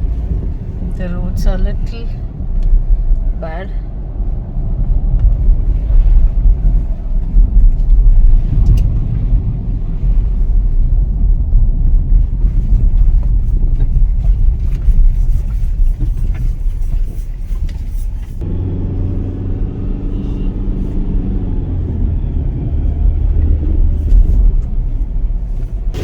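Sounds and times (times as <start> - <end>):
car tyres rumbling on bumpy road: 0.0 - 26.0.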